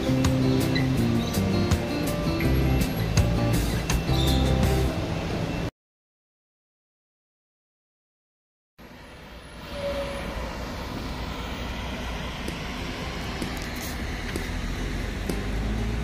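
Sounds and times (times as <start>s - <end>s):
road traffic hum: 0.0s - 5.7s, 8.8s - 16.0s.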